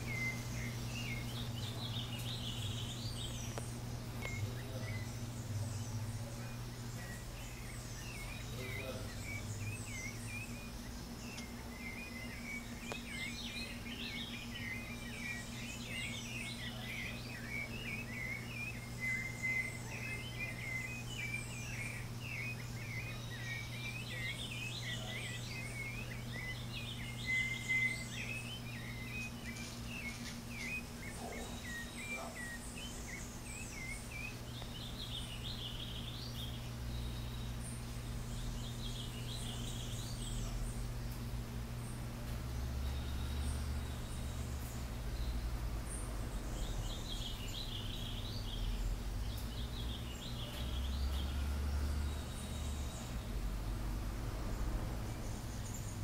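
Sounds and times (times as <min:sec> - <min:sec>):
small birds chirping: 0:00.0 - 0:56.0
steady low hum: 0:00.0 - 0:56.0.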